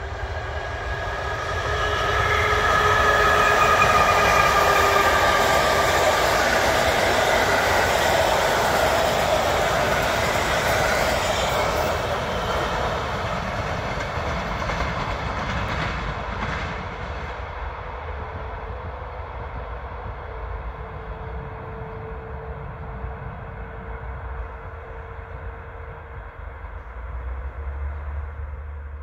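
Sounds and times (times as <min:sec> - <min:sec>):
train wheel and rail noise: 0:00.0 - 0:29.0.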